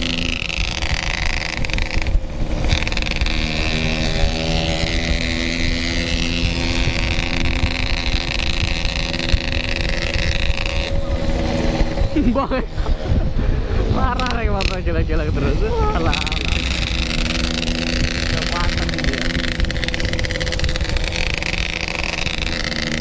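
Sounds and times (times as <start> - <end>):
two-stroke motorcycle engine revving: 0.0 - 23.0
wind noise on microphone: 0.0 - 23.0.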